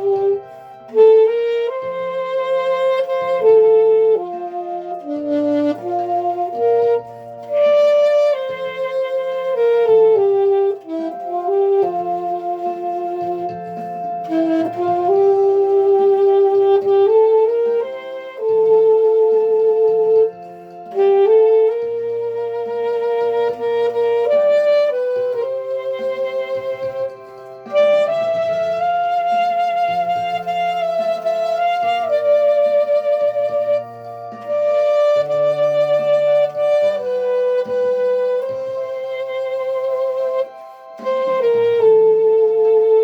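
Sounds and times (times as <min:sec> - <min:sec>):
instrumental backing track: 0:00.0 - 0:43.0
saxophone playing slow melody: 0:00.0 - 0:43.0.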